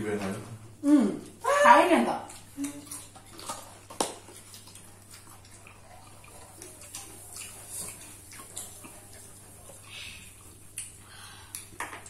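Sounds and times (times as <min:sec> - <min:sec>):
chewing: 0:02.2 - 0:12.0.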